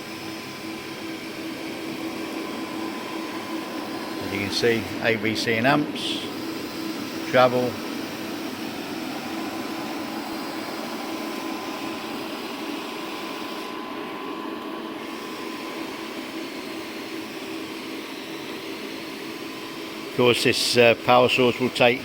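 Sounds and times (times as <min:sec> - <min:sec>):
welding machine whir and hiss: 0:00.0 - 0:22.0.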